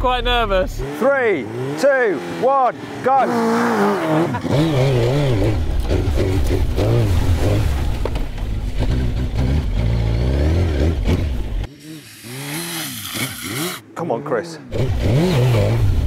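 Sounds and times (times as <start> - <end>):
motorcycle engine revving: 0.4 - 13.8, 14.7 - 16.0.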